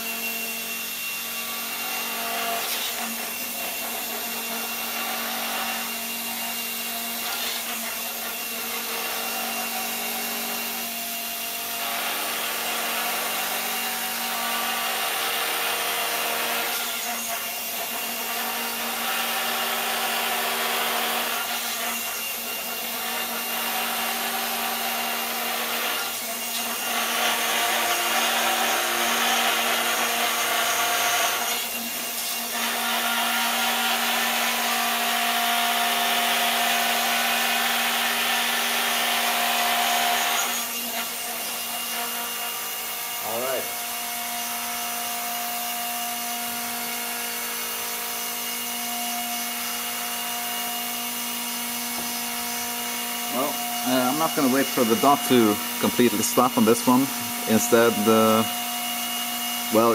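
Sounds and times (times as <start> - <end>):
gyroscope motor whirring: 0.0 - 59.9.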